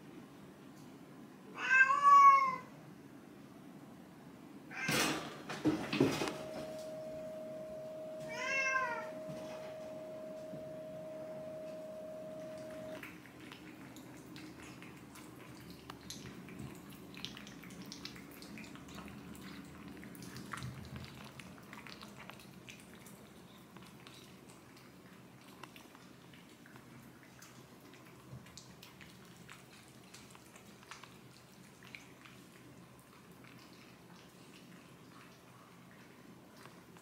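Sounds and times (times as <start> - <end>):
cats licking and smacking: 6.3 - 37.0.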